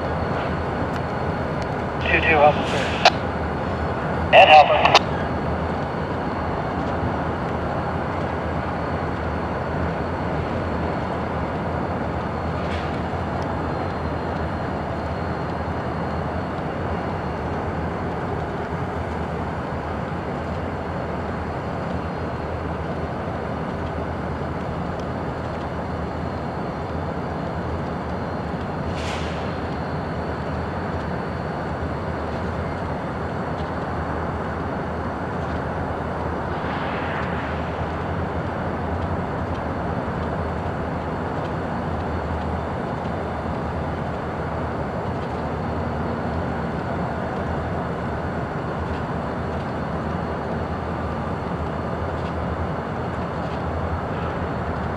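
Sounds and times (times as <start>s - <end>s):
diesel locomotive engine drone: 0.0s - 54.9s.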